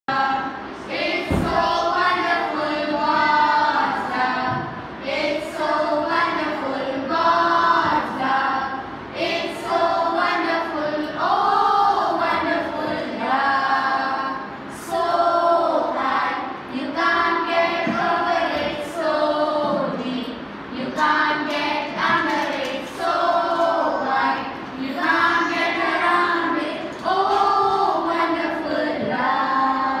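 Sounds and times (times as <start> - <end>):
children and women singing: 0.1 - 30.0.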